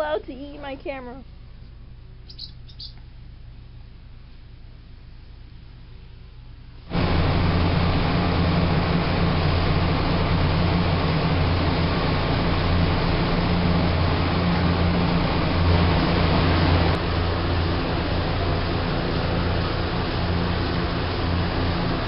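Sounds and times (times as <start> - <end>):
ventilation fans humming: 0.0 - 22.0.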